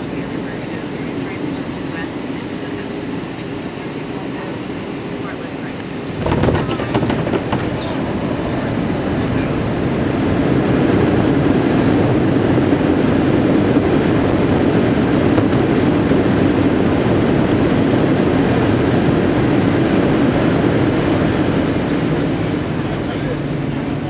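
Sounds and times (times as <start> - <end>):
airplane cabin roar: 0.0 - 24.0.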